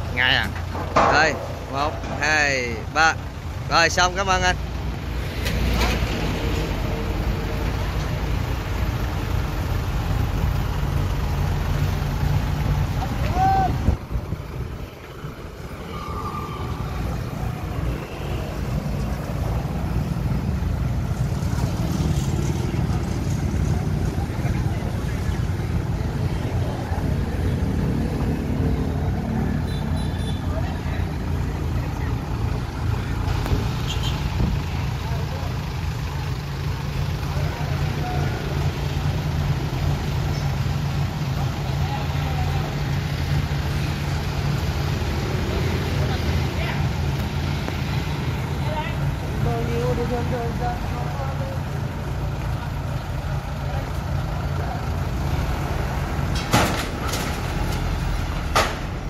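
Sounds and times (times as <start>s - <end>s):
large engine running: 0.0s - 15.9s, 16.7s - 59.0s.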